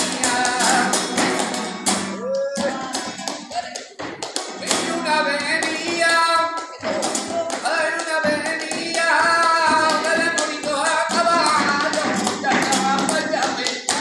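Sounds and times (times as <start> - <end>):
flamenco guitar: 0.0 - 14.0
person singing flamenco: 0.0 - 14.0
rhythmic hand-clapping: 0.0 - 14.0.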